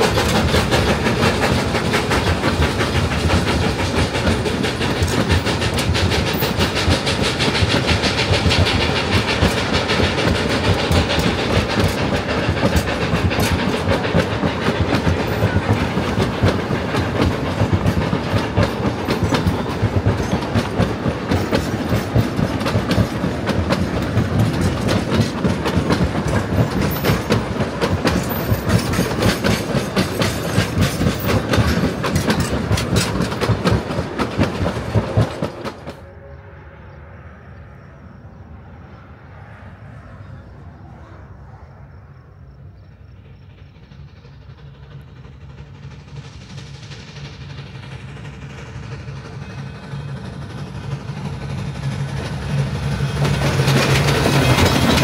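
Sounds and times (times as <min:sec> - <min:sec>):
train wheels clickety-clack: 0:00.0 - 0:37.9, 0:38.5 - 0:55.0.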